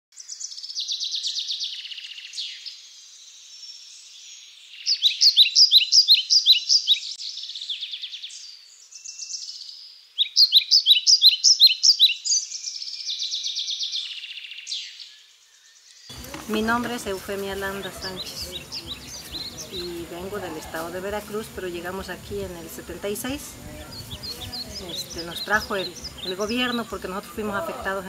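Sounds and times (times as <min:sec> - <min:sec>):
songbirds singing: 0:00.1 - 0:28.0.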